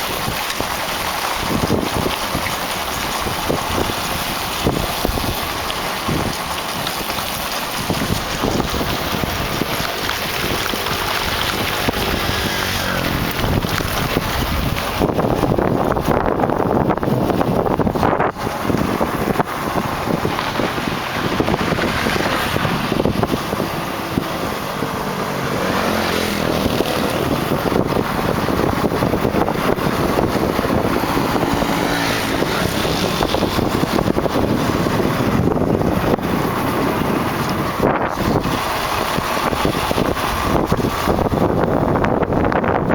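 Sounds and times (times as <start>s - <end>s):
road noise: 0.0s - 42.9s
wind buffeting microphone: 0.0s - 42.9s.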